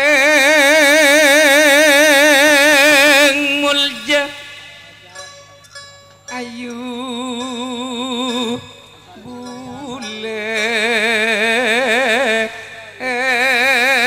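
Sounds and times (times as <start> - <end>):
traditional melody with vibrato: 0.0 - 14.0.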